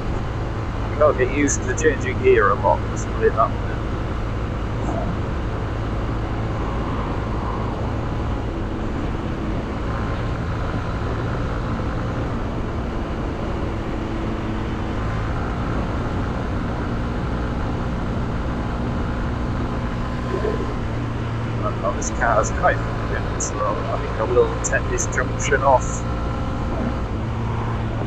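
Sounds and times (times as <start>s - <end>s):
rushing road noise: 0.0s - 28.0s
motorcycle engine running: 0.1s - 28.0s.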